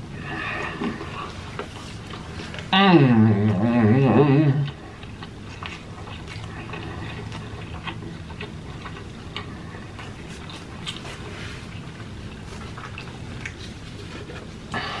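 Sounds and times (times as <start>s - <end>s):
close chewing with mouth clicks: 0.2s - 2.7s, 3.4s - 15.0s.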